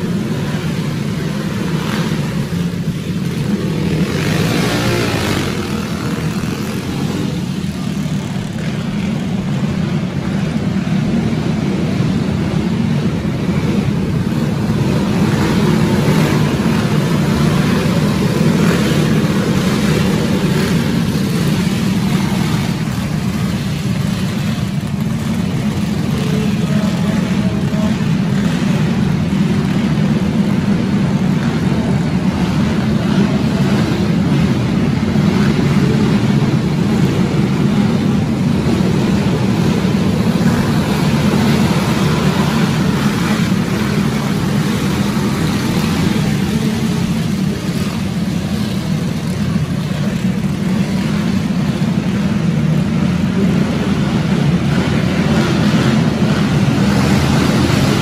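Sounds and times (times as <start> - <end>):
karts engines droning: 0.0 - 58.0.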